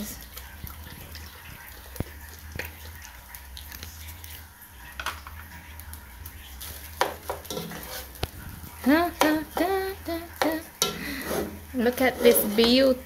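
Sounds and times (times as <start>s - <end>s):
faint cooking hiss: 0.0s - 13.0s.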